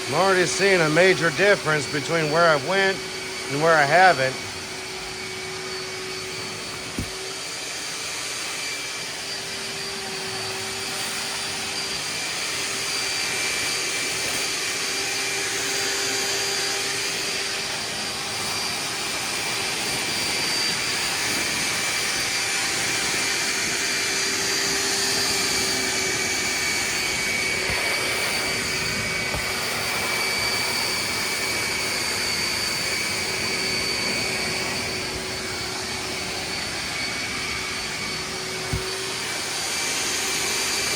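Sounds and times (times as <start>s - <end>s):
wet vacuum sucking water: 0.0s - 40.9s.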